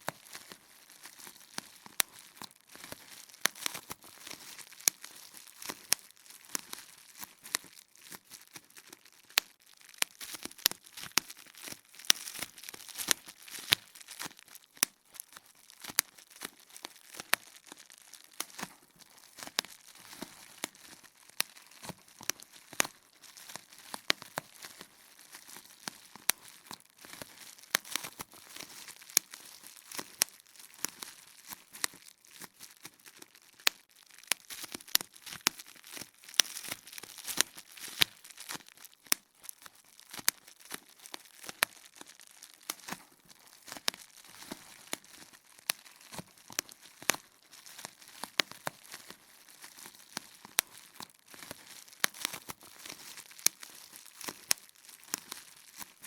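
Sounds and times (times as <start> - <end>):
bubble wrap popping: 0.0 - 56.0
plastic sheet crinkling: 0.0 - 56.0.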